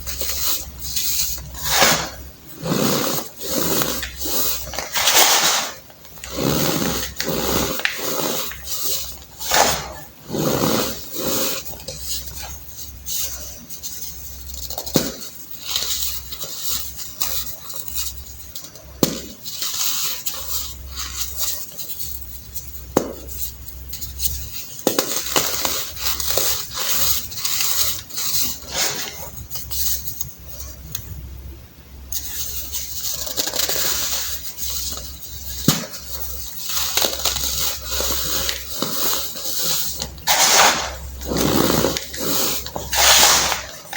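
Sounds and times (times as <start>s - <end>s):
baking soda crunching by hand: 0.0s - 30.8s, 32.1s - 43.9s.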